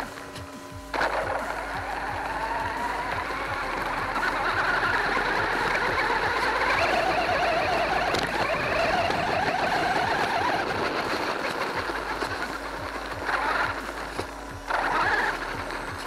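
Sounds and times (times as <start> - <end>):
toy truck motor whining: 0.0 - 16.0
tyres clicking on gravel: 0.0 - 16.0.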